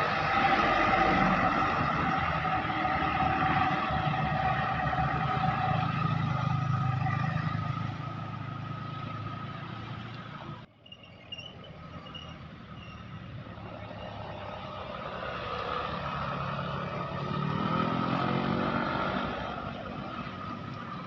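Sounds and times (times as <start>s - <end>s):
vehicle engine passing by: 0.0s - 10.7s, 11.6s - 21.0s.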